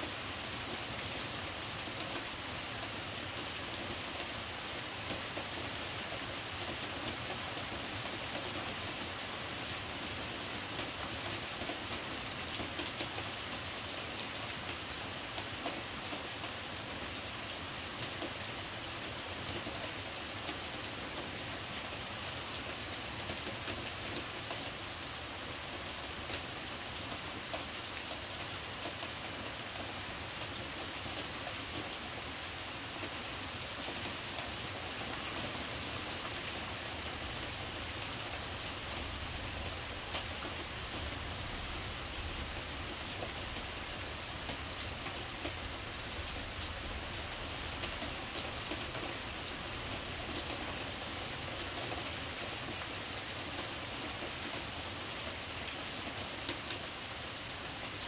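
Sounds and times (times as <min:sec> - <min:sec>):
heavy rain on roof: 0:00.0 - 0:58.0.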